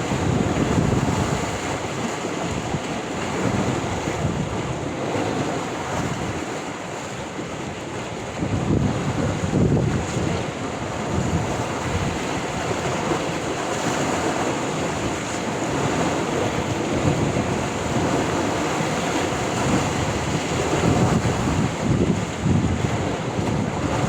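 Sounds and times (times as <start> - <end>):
waves washing onto shore: 0.0 - 24.0
wind buffeting microphone: 0.0 - 24.0.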